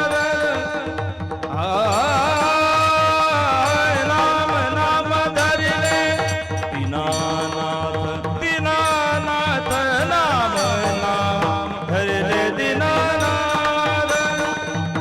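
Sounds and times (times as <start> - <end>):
drum beating steady rhythm: 0.0 - 15.0
person singing ornamented melody: 0.0 - 15.0.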